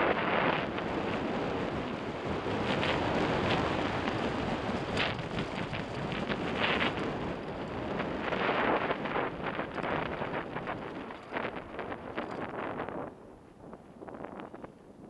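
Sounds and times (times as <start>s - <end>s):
bike rattling over bumps: 0.0s - 14.8s
tyres rushing on dirt trail: 0.0s - 14.8s
wind buffeting microphone: 0.0s - 15.0s.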